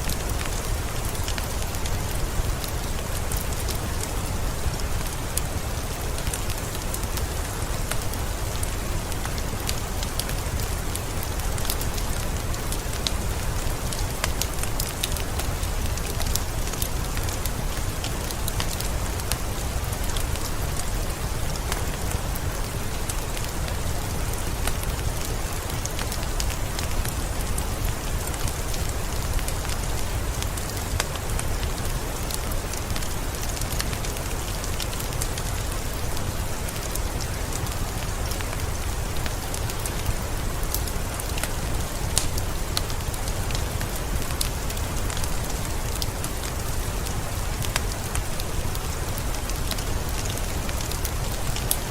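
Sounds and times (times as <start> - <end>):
heavy rain in a forest: 0.0 - 51.9.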